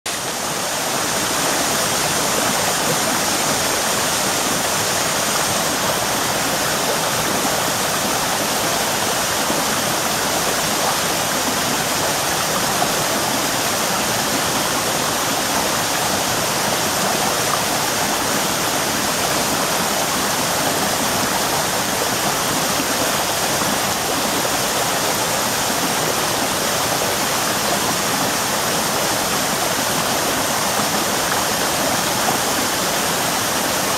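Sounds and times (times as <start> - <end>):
waterfall rushing and splashing: 0.1 - 33.9.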